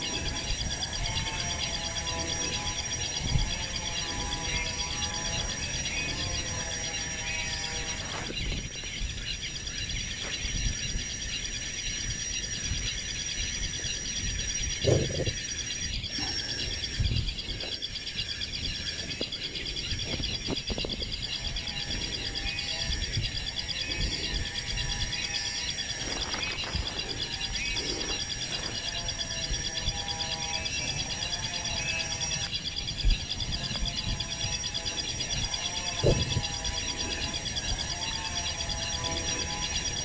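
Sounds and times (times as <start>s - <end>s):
insect chorus buzzing: 0.0s - 40.0s.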